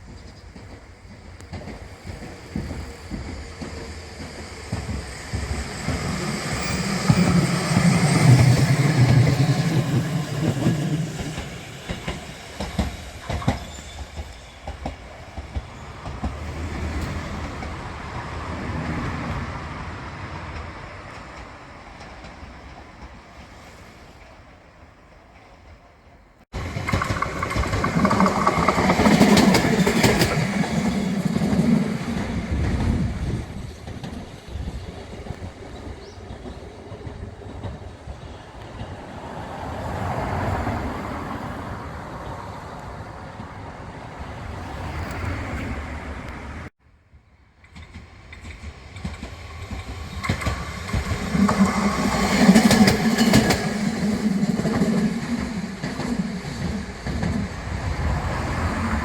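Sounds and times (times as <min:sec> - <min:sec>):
rail vehicle running on track: 0:00.0 - 0:59.0.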